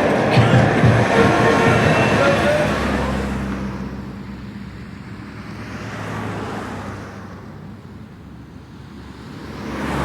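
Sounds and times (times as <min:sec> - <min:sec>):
vehicles passing: 0:00.0 - 0:10.0.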